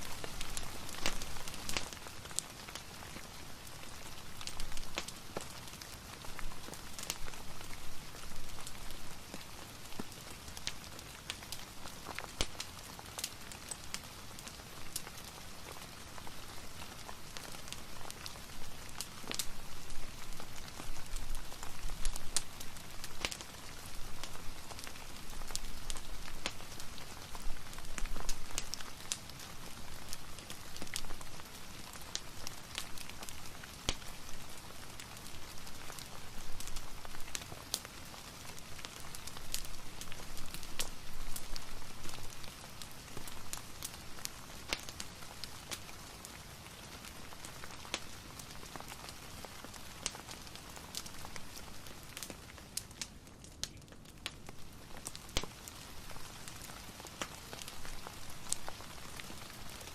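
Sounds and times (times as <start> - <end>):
fireplace crackling: 0.0 - 59.9
soft rain hissing: 0.0 - 59.9.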